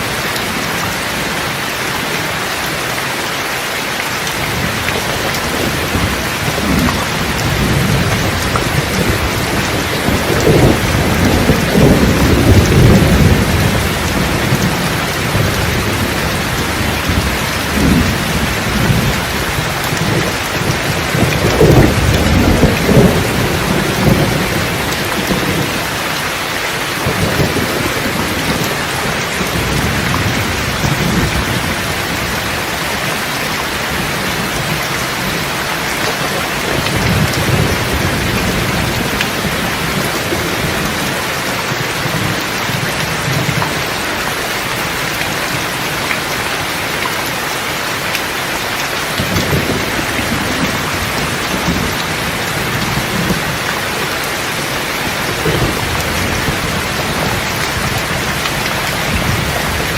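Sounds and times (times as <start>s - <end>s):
steady rain: 0.0s - 59.9s
rolling thunder: 4.4s - 26.2s, 26.9s - 43.9s, 49.1s - 59.9s.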